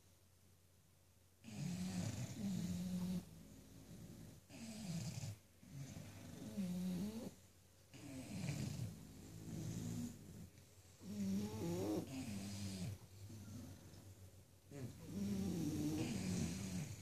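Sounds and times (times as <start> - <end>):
dogs snoring: 1.4 - 17.0.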